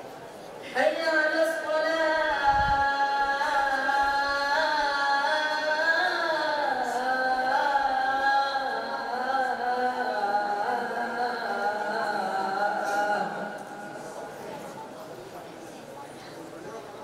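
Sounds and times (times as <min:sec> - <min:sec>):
boy singing call to prayer: 0:00.6 - 0:14.4.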